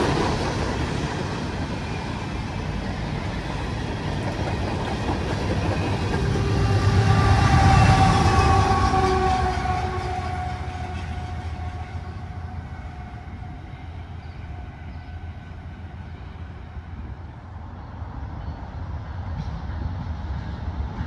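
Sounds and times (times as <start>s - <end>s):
freight train rolling: 0.0s - 21.0s.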